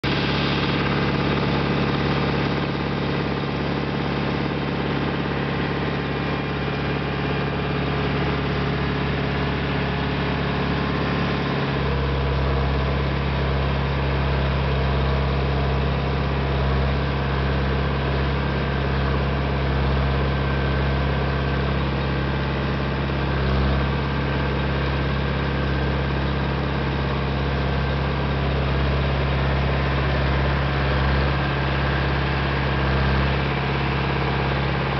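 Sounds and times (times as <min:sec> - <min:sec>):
tractor engine running under load: 0:00.0 - 0:34.9.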